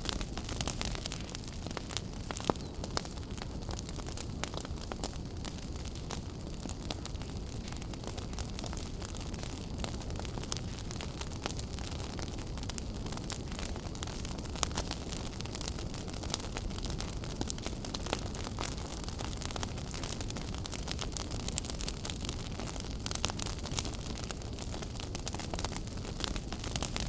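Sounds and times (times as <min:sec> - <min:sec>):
fire crackling: 0:00.0 - 0:27.0.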